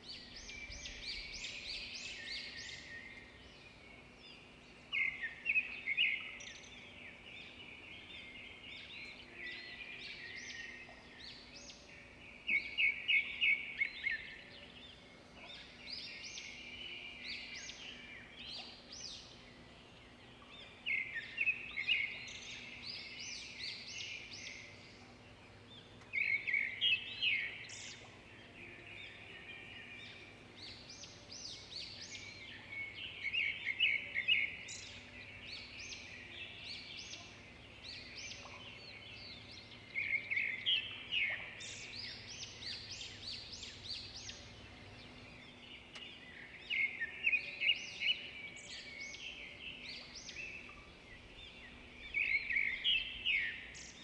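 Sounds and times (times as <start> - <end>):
birds chirping: 0.2 - 54.0.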